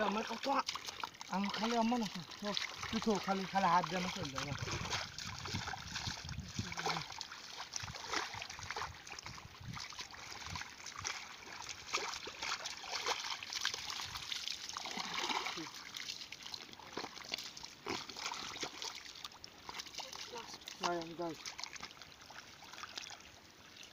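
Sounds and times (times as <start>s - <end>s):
splashing in muddy water: 0.0s - 23.9s.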